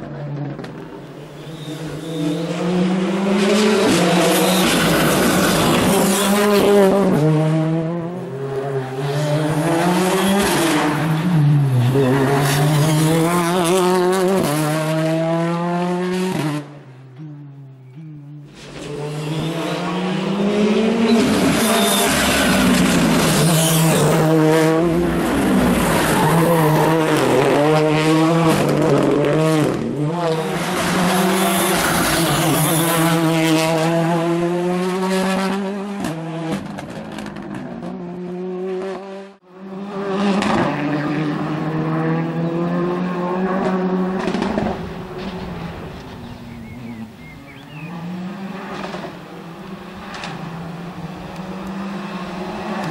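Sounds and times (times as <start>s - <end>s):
rally car engine revving: 0.0s - 52.9s
second rally car revving: 0.0s - 52.9s.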